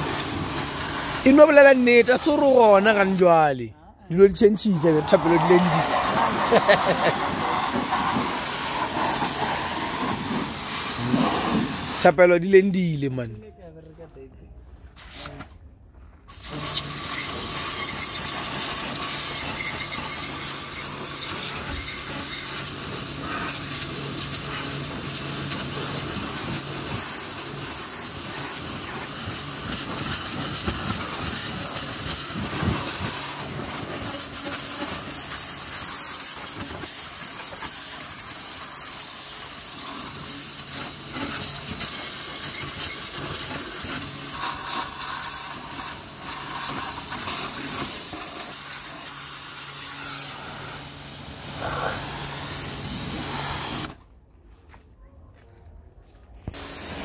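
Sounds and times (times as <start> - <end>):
pressure washer spraying water: 0.0 - 3.3, 4.4 - 12.3, 16.3 - 54.0, 56.5 - 57.0.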